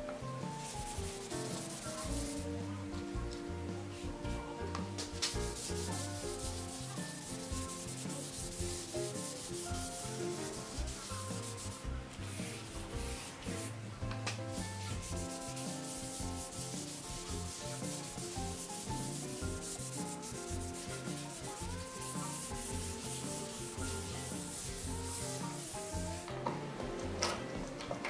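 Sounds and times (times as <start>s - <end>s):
background music: 0.0s - 28.0s
brush scrubbing wooden boards: 0.5s - 13.8s, 14.5s - 26.9s.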